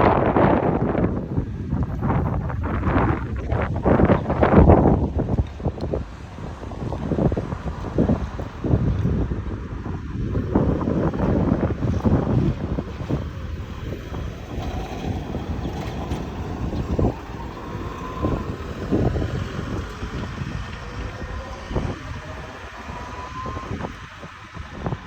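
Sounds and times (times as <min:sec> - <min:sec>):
passing vehicle whine: 0:00.0 - 0:25.0
wind buffeting microphone: 0:00.0 - 0:25.0.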